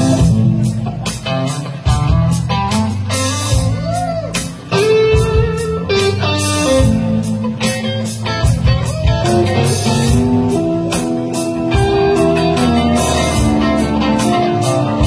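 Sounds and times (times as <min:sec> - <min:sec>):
drum kit beat: 0:00.0 - 0:15.0
electric guitars: 0:00.0 - 0:15.0
lead guitar bending notes: 0:00.0 - 0:15.0.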